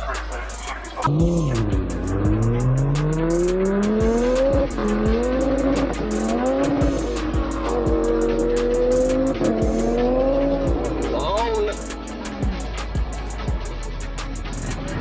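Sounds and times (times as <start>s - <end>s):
car engine accelerating hard: 0.0s - 15.0s
hi-hat ticks: 0.0s - 15.0s
trap music with deep bass: 0.0s - 15.0s.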